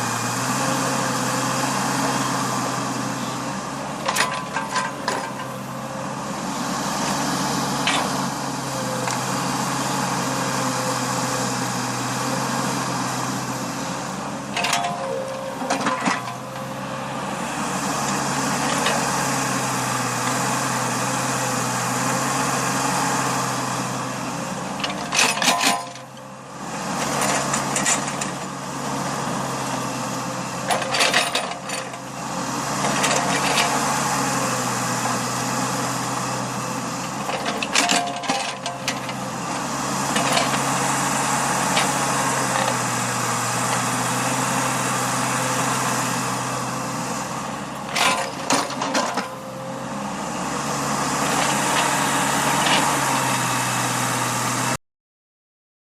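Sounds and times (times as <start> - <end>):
backhoe engine running: 0.0 - 54.8.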